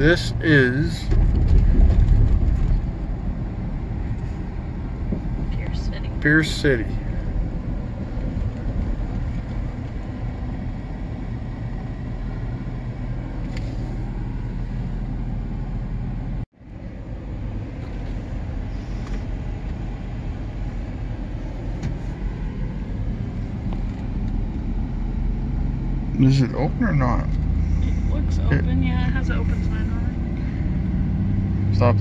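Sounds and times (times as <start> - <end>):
engine and road rumble in a truck cab: 0.0 - 32.0.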